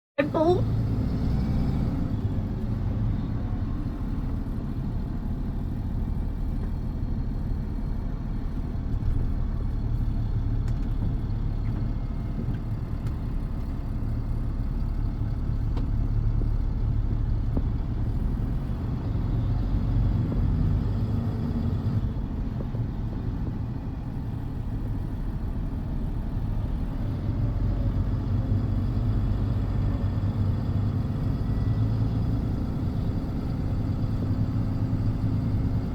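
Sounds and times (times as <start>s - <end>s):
vehicle engine and road noise: 0.2s - 35.9s.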